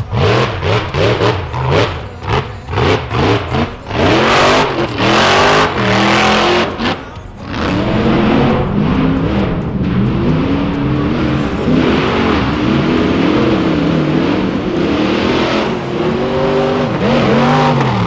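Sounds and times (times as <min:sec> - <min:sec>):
buggy engine revving: 0:00.0 - 0:18.0.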